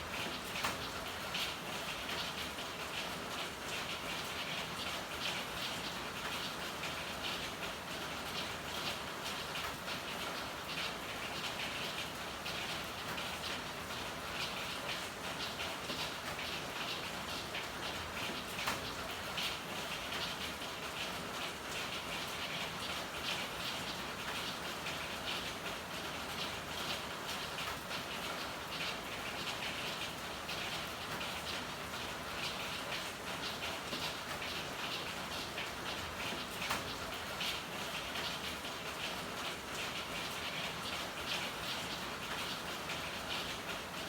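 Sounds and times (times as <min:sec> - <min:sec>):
steady rain hiss: 0:00.0 - 0:44.0.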